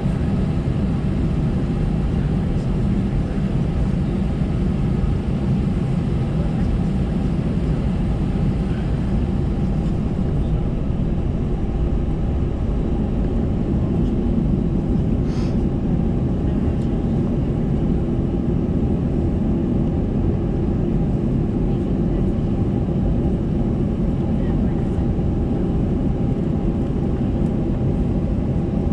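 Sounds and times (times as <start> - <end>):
aircraft engines low rumble: 0.0 - 28.9.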